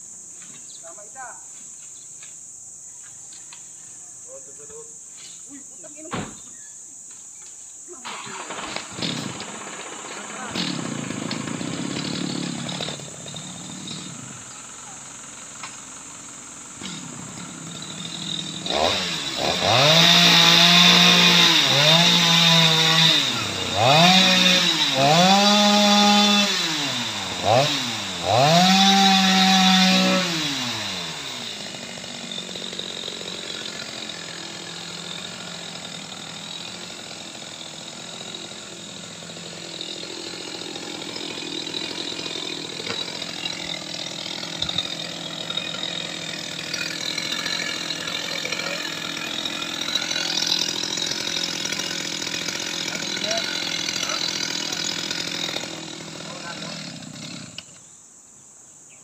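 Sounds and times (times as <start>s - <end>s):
chainsaw idling: 8.0s - 57.8s
chainsaw revving: 8.0s - 57.8s.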